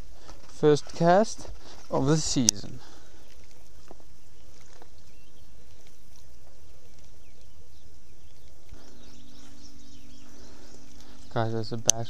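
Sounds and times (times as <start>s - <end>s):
faint bird chirps: 0.0s - 12.0s
low outdoor background noise: 0.0s - 12.0s
low steady hum: 0.0s - 12.0s.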